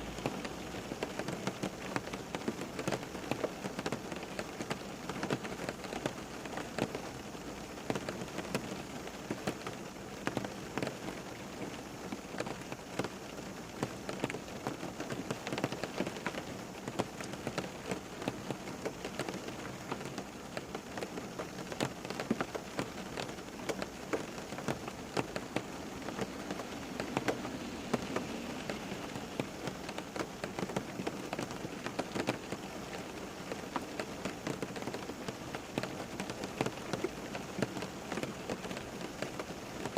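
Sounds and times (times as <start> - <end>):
rain drops on hard surface: 0.0 - 39.9.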